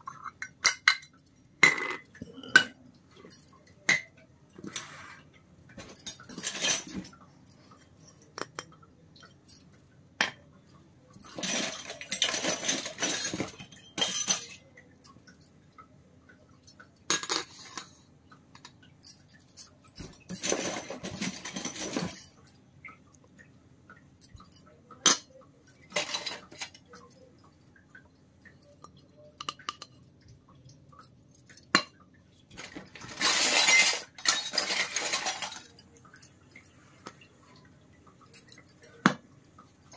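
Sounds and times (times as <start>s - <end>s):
metal utensils clinking on wood: 0.0s - 15.5s, 16.6s - 23.0s, 24.2s - 30.1s, 31.0s - 39.9s.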